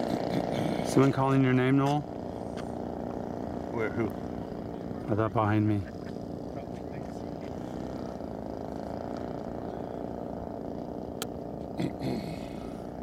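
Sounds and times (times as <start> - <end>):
model aircraft engines humming: 0.0 - 13.0.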